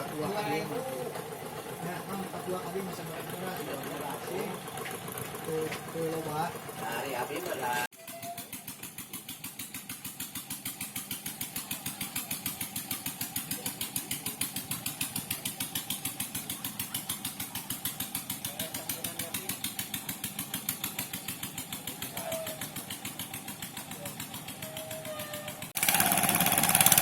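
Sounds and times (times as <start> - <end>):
small engine pulsing: 0.0 - 27.0.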